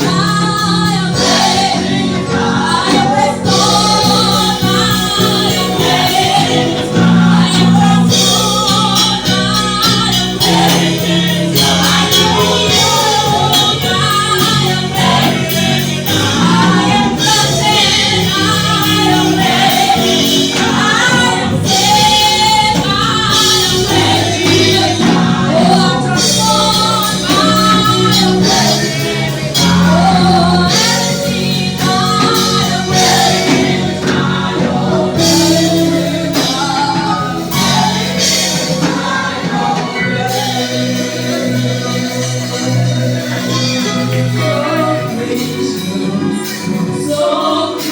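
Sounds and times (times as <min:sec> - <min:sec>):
band with bass and beat: 0:00.0 - 0:47.9
choir singing gospel song: 0:00.0 - 0:47.9.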